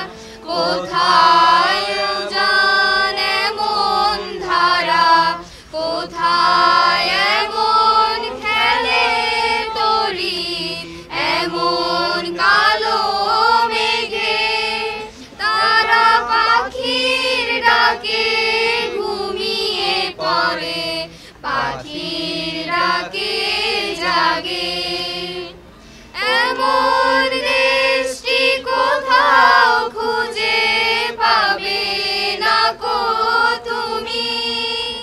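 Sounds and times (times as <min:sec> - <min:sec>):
harmonium sustained notes: 0:00.0 - 0:30.1, 0:32.4 - 0:35.0
group singing: 0:00.0 - 0:35.0.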